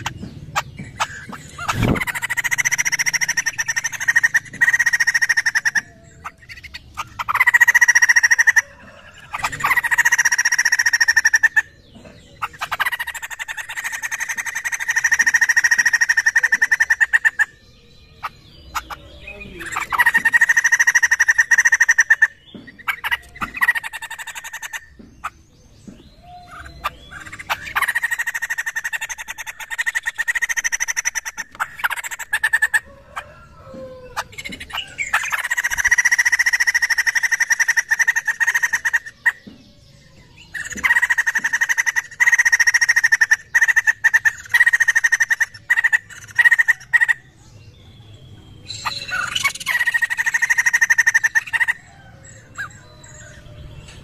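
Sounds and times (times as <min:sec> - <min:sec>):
laughingthrush chattering calls: 0:00.0 - 0:47.4, 0:48.6 - 0:54.0.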